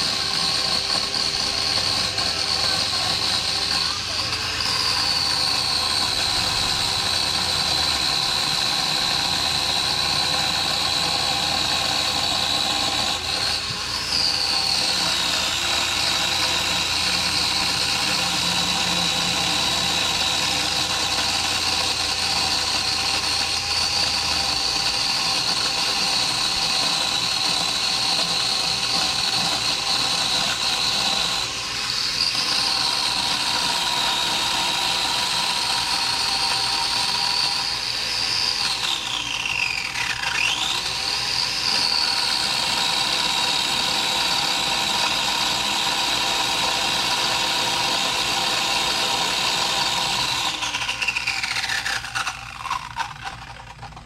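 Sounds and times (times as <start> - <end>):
chainsaw cutting branches: 0.0 - 53.8.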